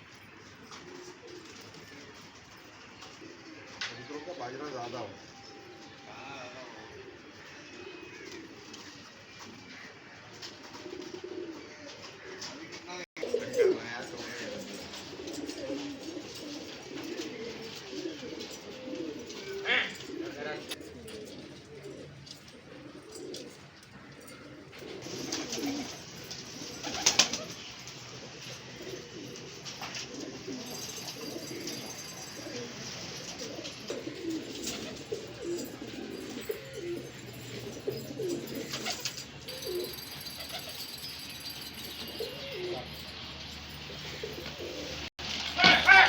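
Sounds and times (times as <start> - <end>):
pigeons cooing: 0.0 - 46.0.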